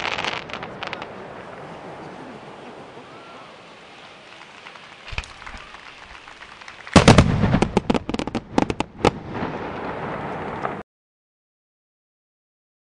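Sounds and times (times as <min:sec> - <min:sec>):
fireworks bursting: 0:00.0 - 0:10.8.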